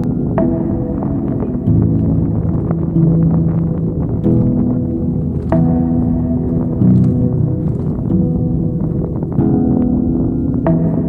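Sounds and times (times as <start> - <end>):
slow ringing background music: 0.0 - 11.0.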